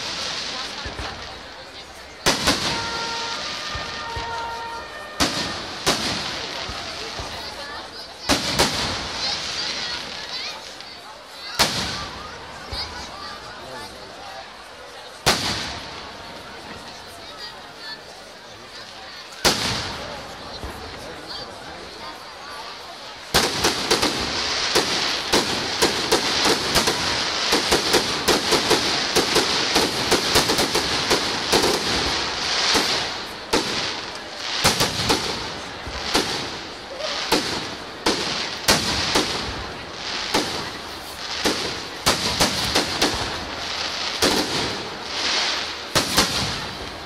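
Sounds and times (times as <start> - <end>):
fireworks banging: 0.0 - 13.5, 15.2 - 17.2, 18.8 - 47.0
fireworks crackling and hissing: 0.0 - 47.0.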